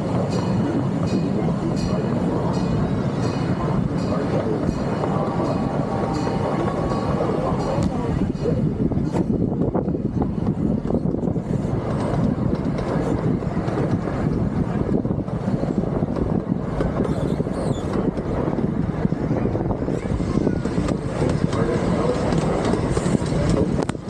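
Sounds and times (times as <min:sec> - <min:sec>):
miniature train wheels rumbling: 0:00.0 - 0:24.0.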